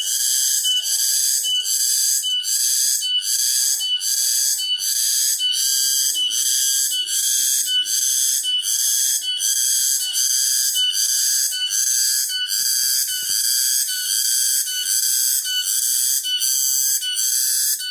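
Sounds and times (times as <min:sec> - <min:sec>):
cicadas buzzing: 0:00.0 - 0:17.9.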